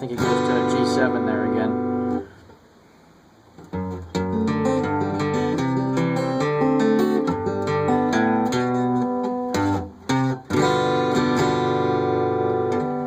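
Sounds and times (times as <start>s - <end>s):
fingerpicked acoustic guitar: 0.0s - 2.6s, 3.5s - 13.0s.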